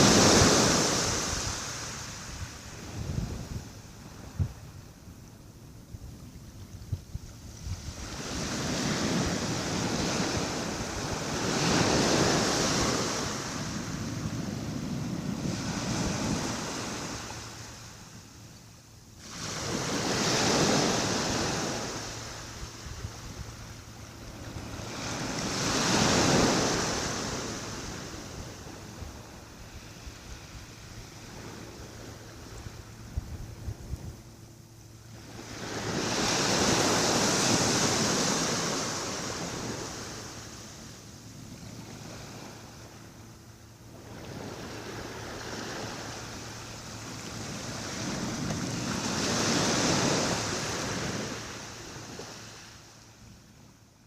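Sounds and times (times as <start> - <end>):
small waves breaking on a beach: 0.0 - 54.0.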